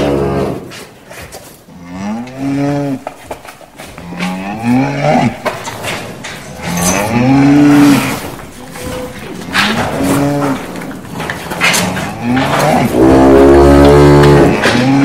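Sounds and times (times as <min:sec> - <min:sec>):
cows mooing: 0:00.0 - 0:00.9, 0:01.7 - 0:15.0.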